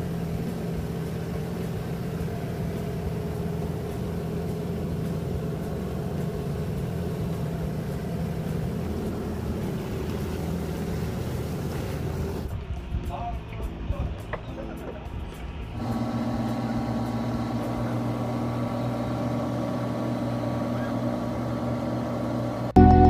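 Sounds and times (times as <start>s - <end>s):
propeller wash churning water: 0.0s - 12.5s, 15.7s - 22.8s
boat engine running: 0.0s - 12.8s, 13.8s - 23.0s.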